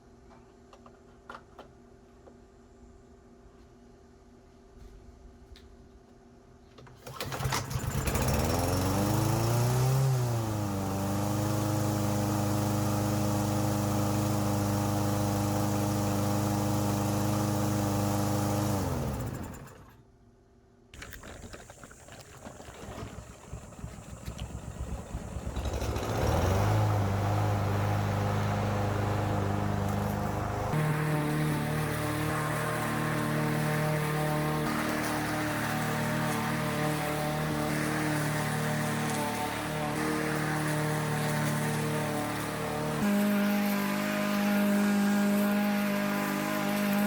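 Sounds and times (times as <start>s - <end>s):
lawn mower engine: 7.0s - 20.0s, 21.0s - 47.0s.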